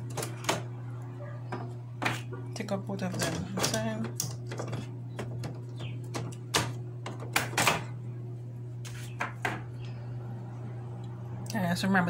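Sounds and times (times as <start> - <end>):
low hum: 0.0 - 9.0, 9.6 - 12.0.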